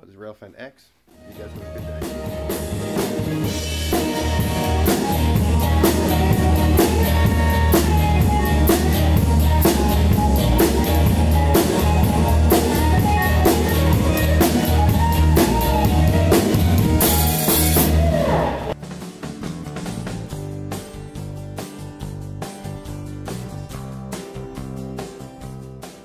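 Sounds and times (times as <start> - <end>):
band music: 1.1 - 26.0
drum kit beat: 1.1 - 26.0.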